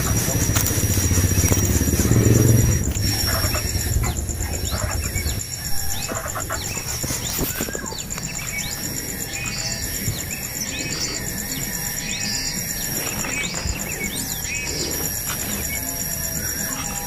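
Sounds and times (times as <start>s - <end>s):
high insect trill: 0.0s - 17.0s
low engine rumble: 0.0s - 17.0s
small birds chirping: 0.0s - 17.0s.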